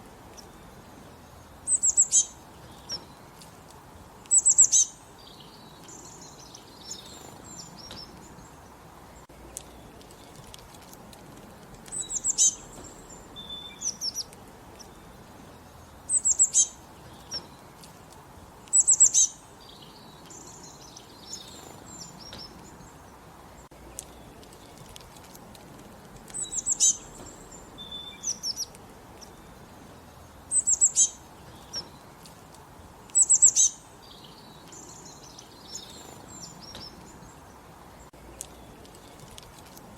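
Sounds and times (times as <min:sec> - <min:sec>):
low background hiss: 0:00.0 - 0:39.9
songbirds singing: 0:00.0 - 0:39.9
faint bird chirps: 0:00.2 - 0:03.5, 0:04.2 - 0:10.6, 0:11.8 - 0:17.9, 0:18.7 - 0:25.0, 0:26.3 - 0:32.2, 0:33.1 - 0:39.4.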